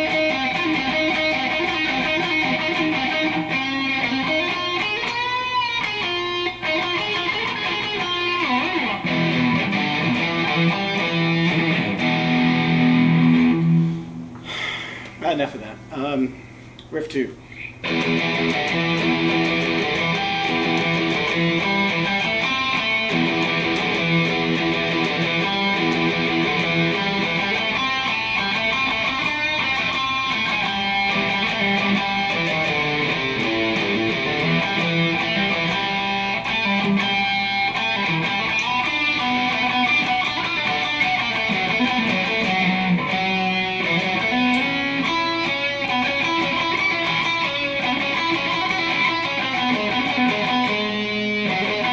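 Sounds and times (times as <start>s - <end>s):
electric guitar riff: 0.0s - 15.0s, 17.6s - 51.9s.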